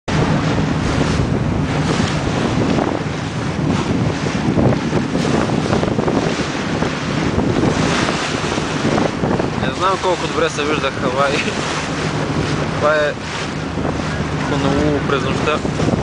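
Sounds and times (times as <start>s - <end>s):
sea waves rushing: 0.1s - 16.0s
wind buffeting microphone: 0.1s - 16.0s.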